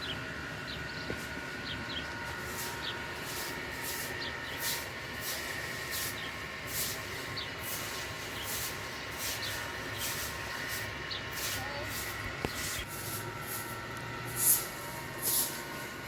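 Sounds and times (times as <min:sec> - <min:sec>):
rhythmic scraping with chirps: 0:00.0 - 0:16.0.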